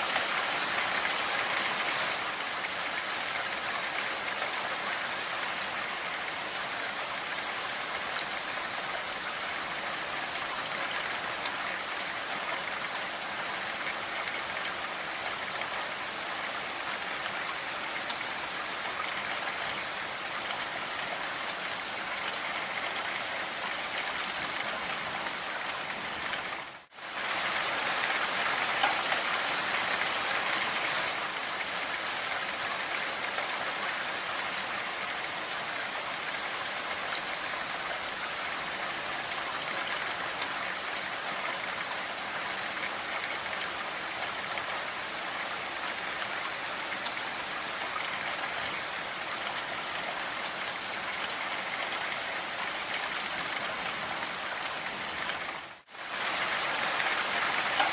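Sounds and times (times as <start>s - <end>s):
steady rainfall: 0.0s - 57.9s.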